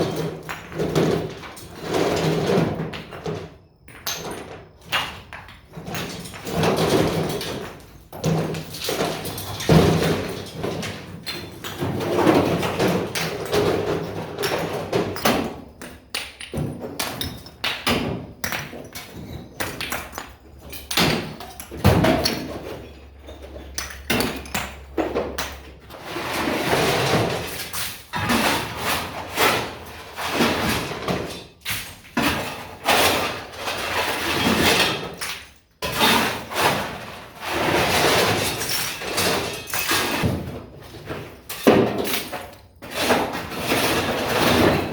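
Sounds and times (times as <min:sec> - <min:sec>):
bricks clattering: 0:00.0 - 0:44.9.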